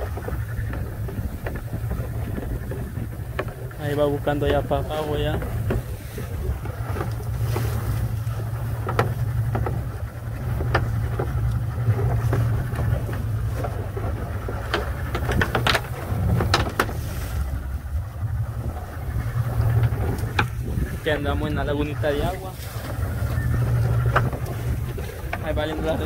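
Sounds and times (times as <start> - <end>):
sharp knocks and clicks: 0.0 - 17.1, 19.2 - 20.7, 22.8 - 26.0
outboard motor running: 0.0 - 26.0
water wash: 0.0 - 26.0
wind: 0.0 - 26.0.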